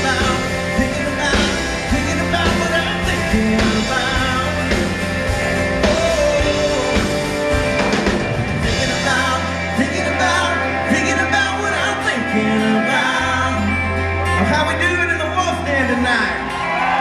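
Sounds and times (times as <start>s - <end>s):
man singing lead vocals: 0.0s - 7.8s, 8.6s - 16.3s
live band playing: 0.0s - 17.0s.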